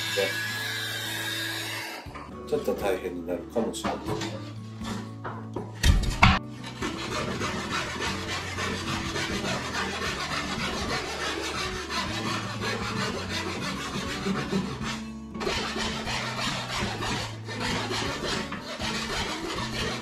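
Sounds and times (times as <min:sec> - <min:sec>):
hand saw cutting wood: 0:00.0 - 0:02.2, 0:05.8 - 0:20.0.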